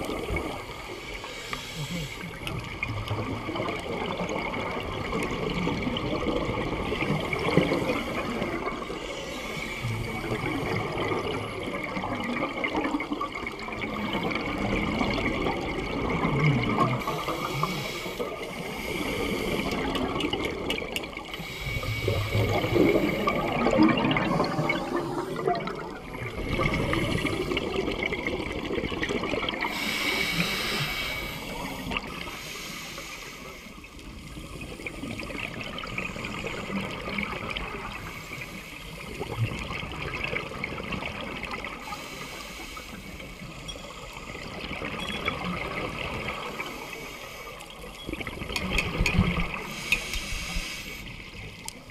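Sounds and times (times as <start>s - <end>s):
underwater bubbles gurgling: 0.0s - 51.9s.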